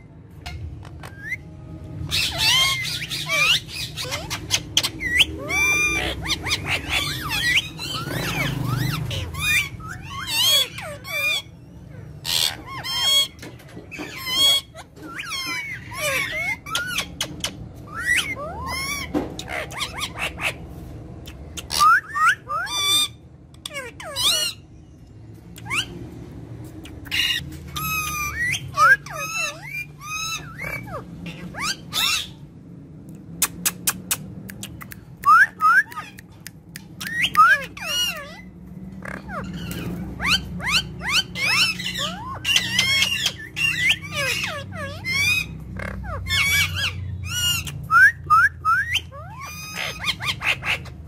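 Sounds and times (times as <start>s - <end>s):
parakeets squawking and whistling: 0.0s - 51.0s.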